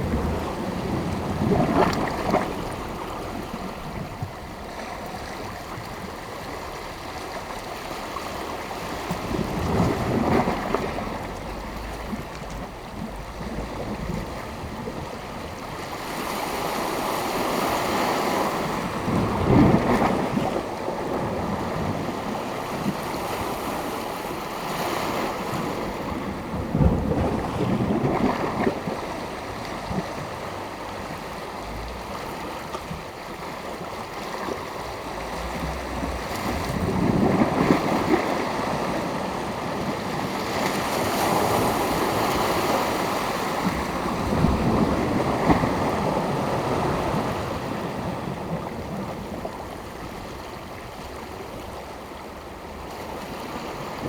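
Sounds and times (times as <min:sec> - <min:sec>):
wind on microphone: 0:00.0 - 0:06.1, 0:08.8 - 0:24.0, 0:24.7 - 0:50.6
sea waves breaking on shore: 0:00.0 - 0:54.0.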